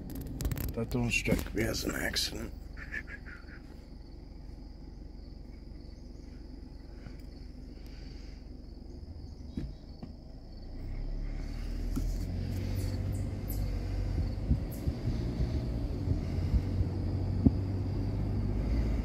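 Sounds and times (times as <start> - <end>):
car engine and road rumble: 0.0 - 19.0
high insect drone: 1.0 - 19.0.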